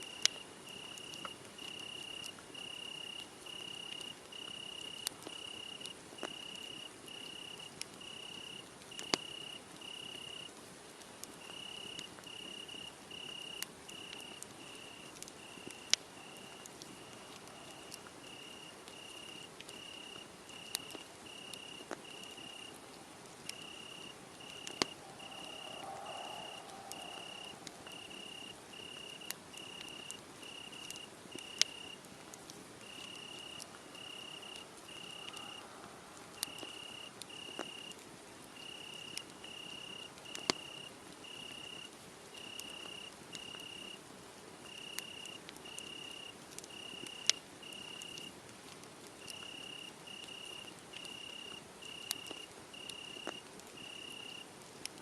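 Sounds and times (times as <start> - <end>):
crickets chirping: 0.0 - 10.5, 11.4 - 32.0, 32.8 - 38.0, 38.6 - 44.0, 44.6 - 48.4, 49.2 - 55.0
wood fire crackling: 0.0 - 55.0.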